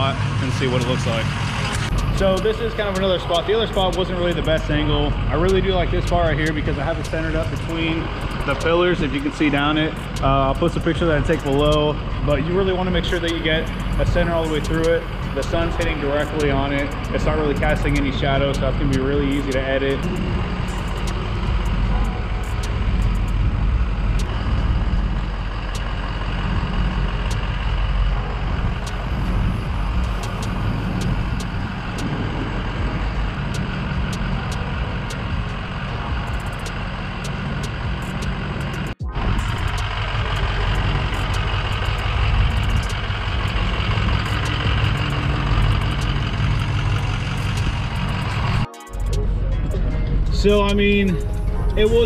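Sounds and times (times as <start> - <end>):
vehicle engine rumbling: 0.0 - 52.0.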